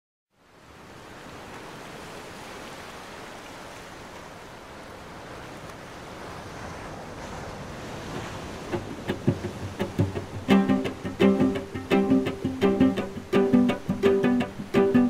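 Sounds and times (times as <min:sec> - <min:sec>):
ocean surf washing: 0:00.5 - 0:15.0.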